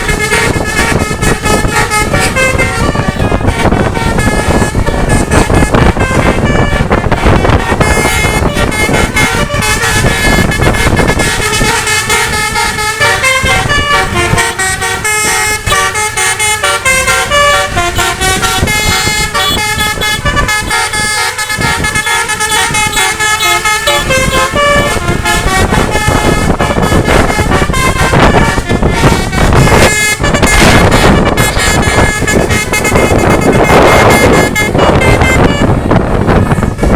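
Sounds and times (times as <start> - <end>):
musical bus horns: 0.0 - 36.9
road and engine noise: 0.0 - 36.9.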